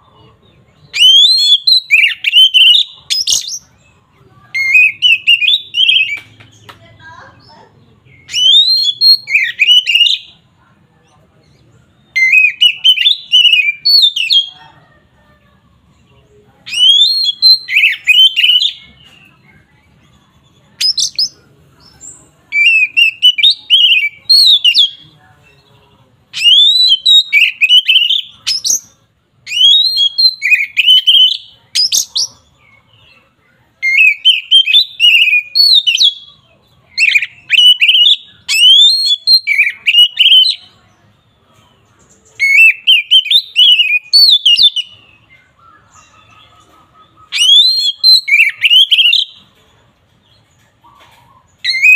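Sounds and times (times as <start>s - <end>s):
magpie-robin singing: 0.0s - 51.9s.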